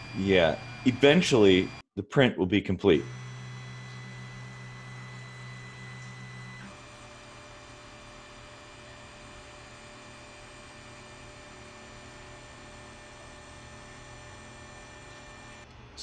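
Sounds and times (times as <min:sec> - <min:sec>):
fans humming: 0:00.0 - 0:01.8, 0:02.8 - 0:16.0
stepper motors whining: 0:00.0 - 0:01.8, 0:02.9 - 0:15.7.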